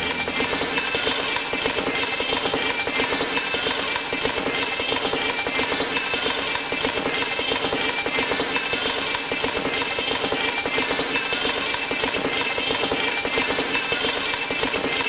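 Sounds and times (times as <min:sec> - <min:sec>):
machine-like rattling electronic pulse: 0:00.0 - 0:15.0.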